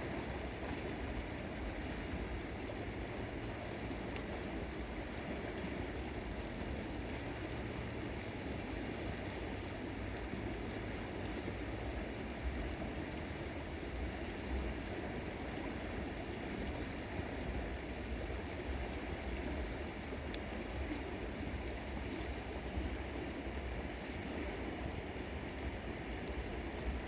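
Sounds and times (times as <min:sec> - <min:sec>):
river water flowing: 0:00.0 - 0:27.0.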